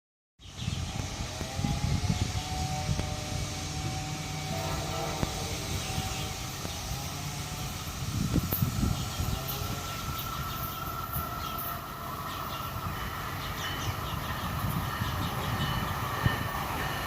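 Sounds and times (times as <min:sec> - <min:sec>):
electric locomotive rumble: 0:00.4 - 0:17.0
thin whining tones: 0:00.7 - 0:17.0.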